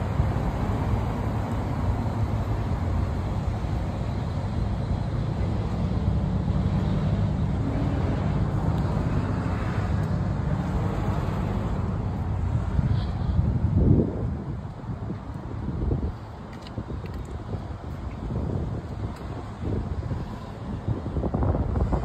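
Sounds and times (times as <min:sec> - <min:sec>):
low rumble of vehicle noise: 0:00.0 - 0:22.0.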